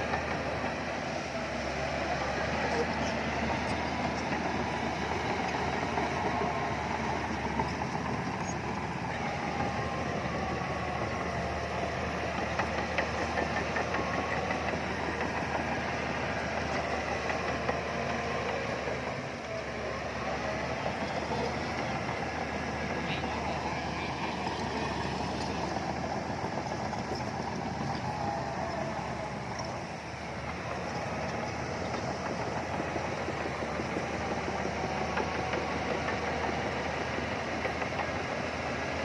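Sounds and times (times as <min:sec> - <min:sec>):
diesel bulldozer engine running: 0:00.0 - 0:39.0.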